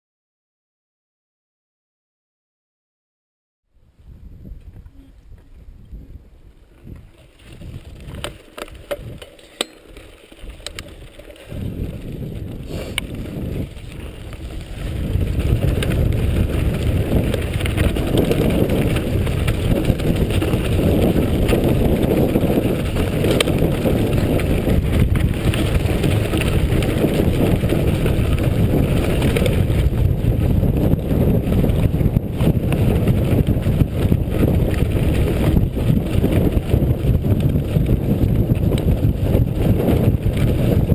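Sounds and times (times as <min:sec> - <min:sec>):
bike tyres rattling over stones: 0:06.5 - 0:40.9.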